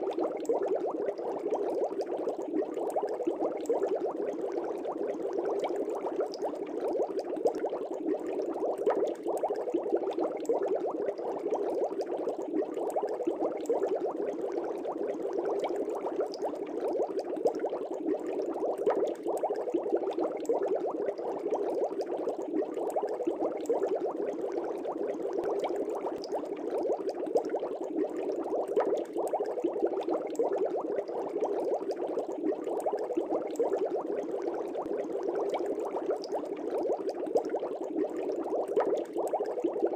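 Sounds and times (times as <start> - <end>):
air bubbles in water: 0.0 - 39.9.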